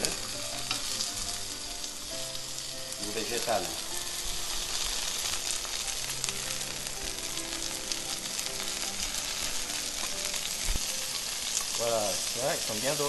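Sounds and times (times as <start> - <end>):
mushrooms sizzling in hot oil: 0.0 - 13.0.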